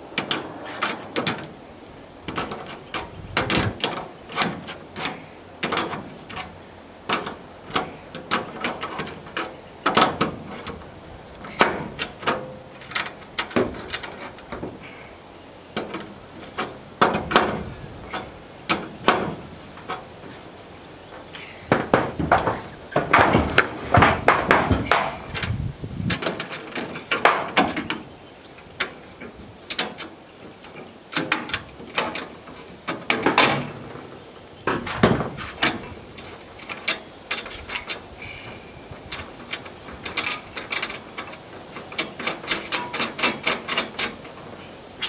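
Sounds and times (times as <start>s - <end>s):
metal hardware clattering: 2.2s - 14.9s, 15.7s - 20.4s, 21.1s - 44.7s.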